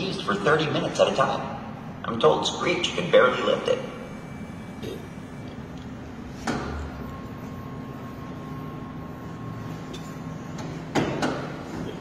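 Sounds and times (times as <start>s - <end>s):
steady mechanical hum with whine: 0.0s - 12.0s.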